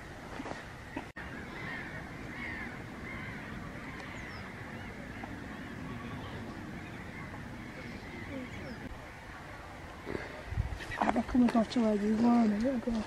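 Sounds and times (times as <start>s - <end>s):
wind rumble on microphone: 0.0s - 13.0s
distant waterbird calls: 0.4s - 13.0s.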